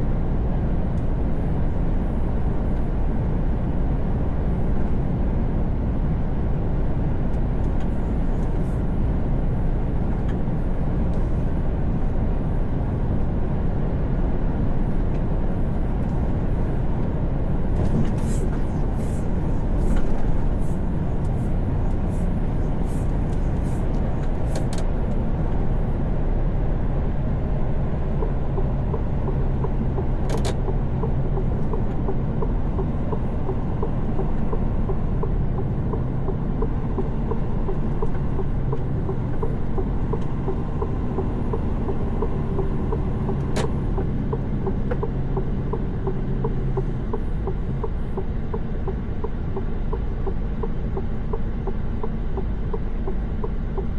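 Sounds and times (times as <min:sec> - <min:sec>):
diesel engine drone: 0:00.0 - 0:53.9.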